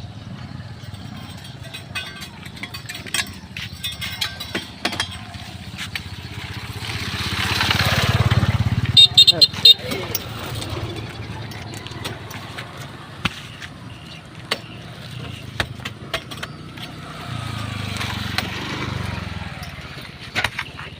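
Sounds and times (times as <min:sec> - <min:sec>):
diesel engine chugging: 0:00.0 - 0:20.9
sharp clanks: 0:00.3 - 0:20.9.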